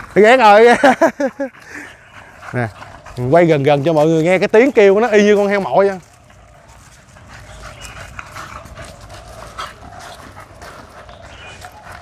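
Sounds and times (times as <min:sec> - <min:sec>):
dog breathing with grunts and snuffles: 0:00.0 - 0:12.0.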